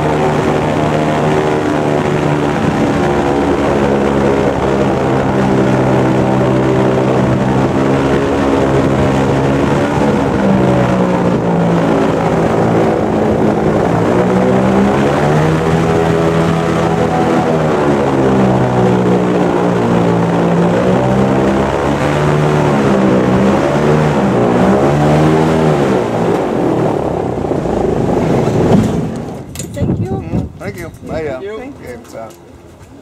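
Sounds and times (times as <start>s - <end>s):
airboat engine and propeller drone: 0.0s - 33.0s.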